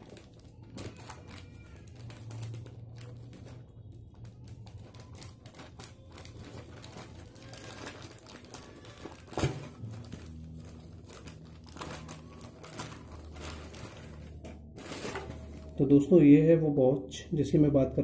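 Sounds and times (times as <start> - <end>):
plastic bag crinkling and tearing: 0.0 - 16.1.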